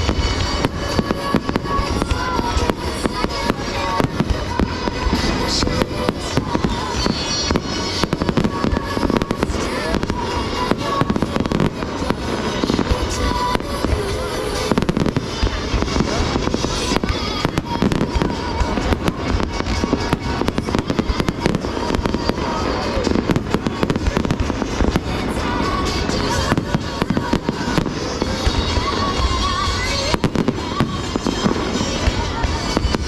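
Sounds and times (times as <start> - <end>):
fireworks bangs and crackling: 0.0 - 33.0
music playing: 0.0 - 33.0.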